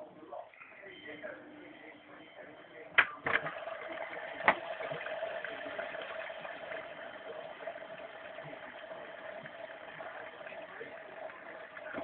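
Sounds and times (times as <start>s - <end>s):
washing machine churning: 0.5s - 12.0s.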